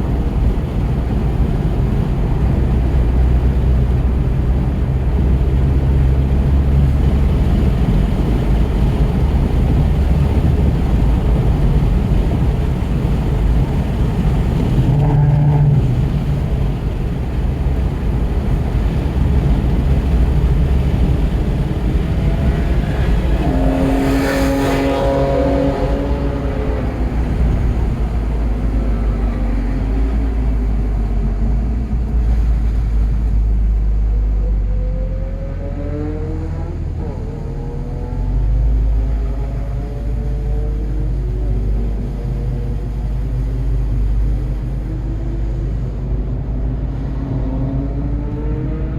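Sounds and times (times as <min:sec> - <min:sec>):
car engine running hard: 0:00.0 - 0:48.9
wind and tyre noise: 0:00.0 - 0:48.9.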